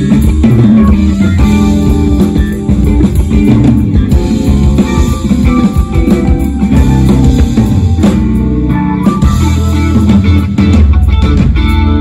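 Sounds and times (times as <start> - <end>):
live jazz fusion band: 0.0 - 12.0.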